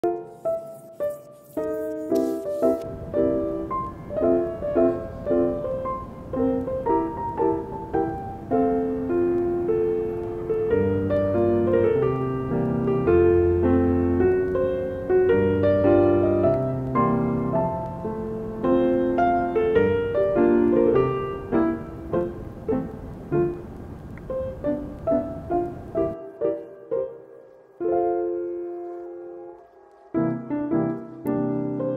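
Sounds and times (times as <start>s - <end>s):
piano melody: 0.0s - 31.9s.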